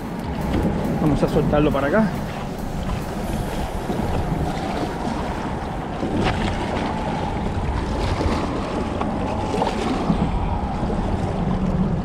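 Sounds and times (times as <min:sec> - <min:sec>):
wind buffeting the microphone: 0:00.0 - 0:12.0.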